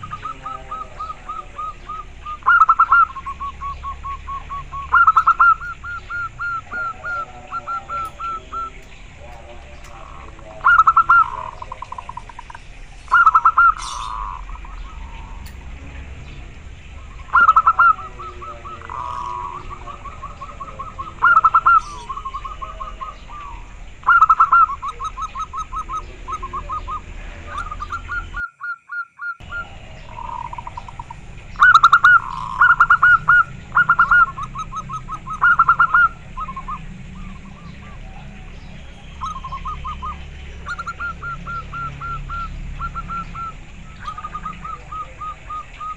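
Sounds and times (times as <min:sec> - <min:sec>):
dove cooing: 0:00.0 - 0:45.9.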